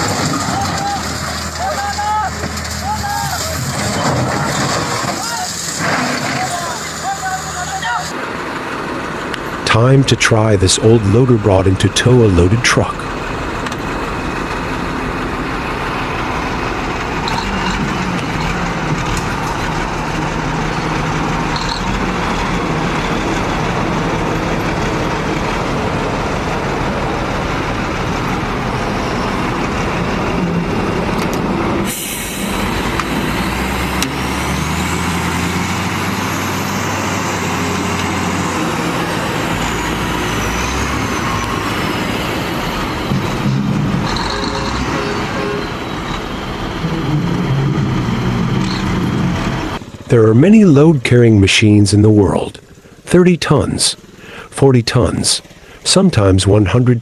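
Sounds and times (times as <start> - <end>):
heavy vehicle engines running: 0.0 - 57.0
engine deep steady hum: 8.1 - 57.0.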